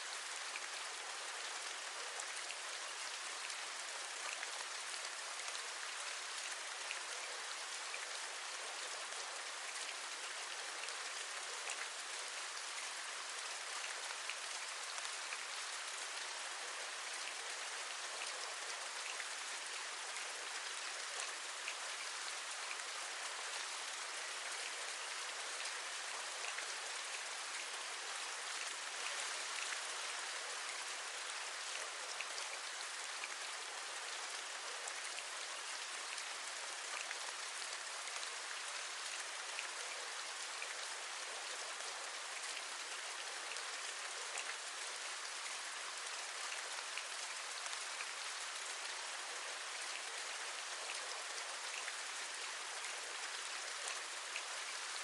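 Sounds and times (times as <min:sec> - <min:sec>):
rain drops ticking on a surface: 0:00.0 - 0:55.0.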